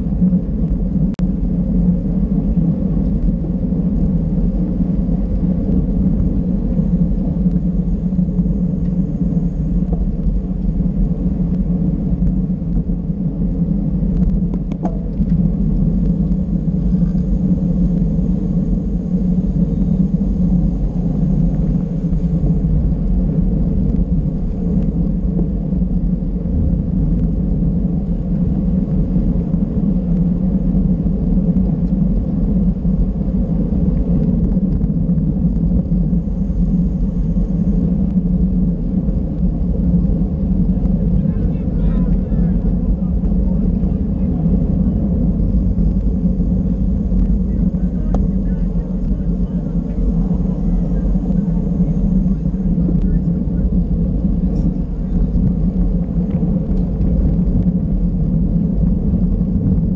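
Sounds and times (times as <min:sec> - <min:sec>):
bicycle road noise: 0:00.0 - 0:59.9
wind rumble: 0:00.0 - 0:59.9.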